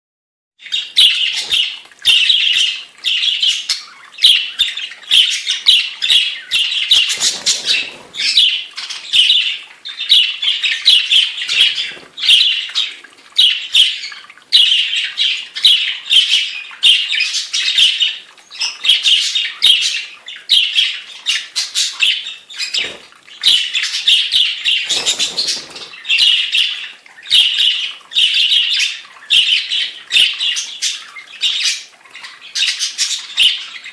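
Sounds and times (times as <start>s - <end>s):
budgerigars chattering and squawking: 0.6s - 33.9s.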